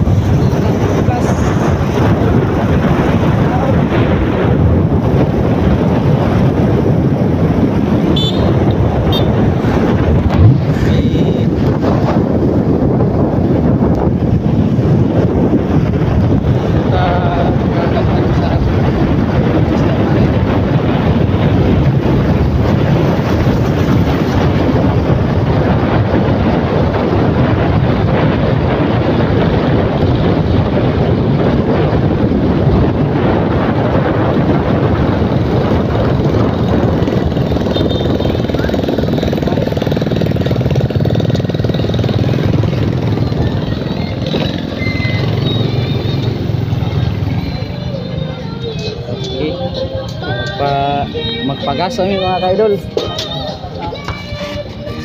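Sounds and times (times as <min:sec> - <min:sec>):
vehicle engine and road noise: 0:00.0 - 0:55.0
wind buffeting microphone: 0:00.0 - 0:55.0.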